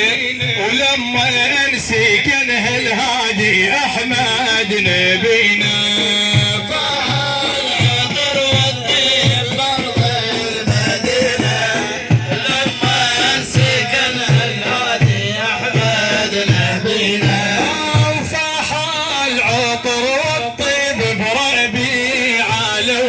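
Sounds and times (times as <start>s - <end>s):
hand drum rhythm: 0.0s - 23.0s.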